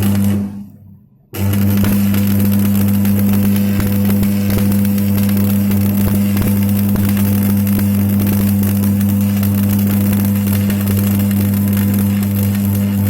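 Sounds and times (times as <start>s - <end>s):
welding arc crackling and spitting: 0.0s - 0.8s, 1.4s - 13.0s
welding machine hum: 0.0s - 13.0s.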